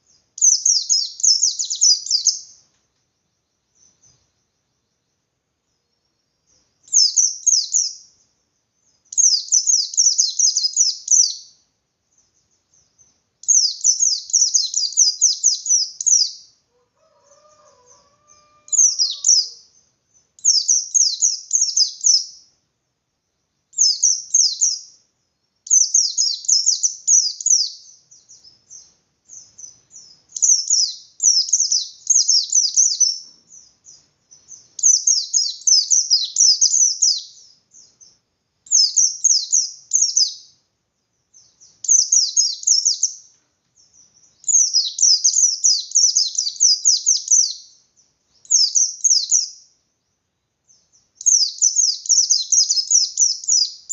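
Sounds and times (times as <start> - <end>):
bird singing rapid chirps: 0.0 - 16.6, 17.2 - 22.6, 23.3 - 40.6, 41.2 - 49.8, 50.7 - 53.9.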